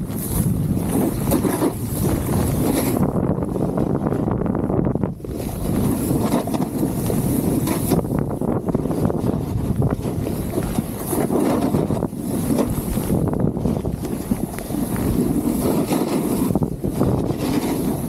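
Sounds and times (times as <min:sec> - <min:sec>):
snowboard scraping over snow: 0:00.0 - 0:18.0
wind buffeting microphone: 0:00.0 - 0:18.0.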